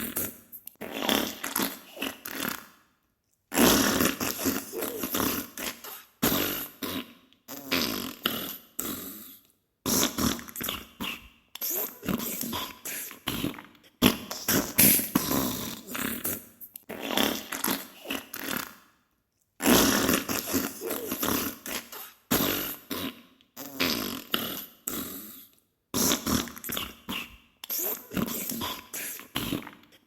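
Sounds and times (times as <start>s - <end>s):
wet sputtering farts: 0.0s - 2.7s, 3.5s - 9.0s, 9.9s - 18.8s, 19.6s - 25.2s, 26.0s - 30.0s.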